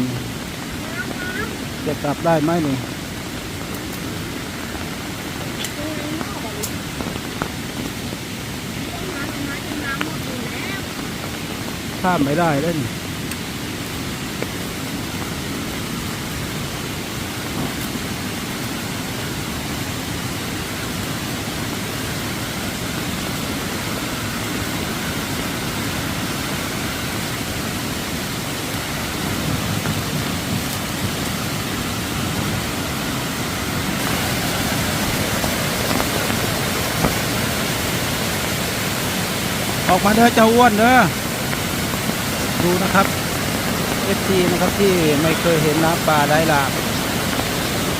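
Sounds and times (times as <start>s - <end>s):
rushing stream: 0.0s - 47.9s.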